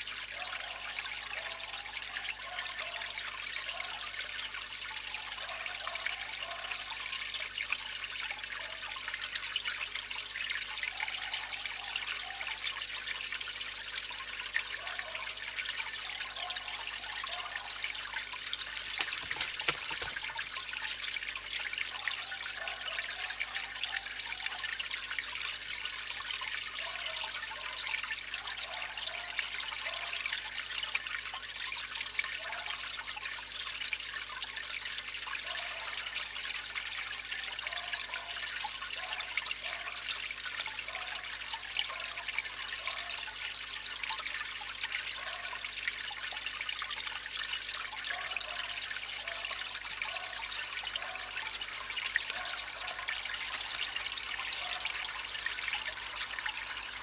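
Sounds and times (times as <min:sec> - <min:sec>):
water gurgles: 0:00.0 - 0:57.0
water trickling: 0:00.0 - 0:57.0.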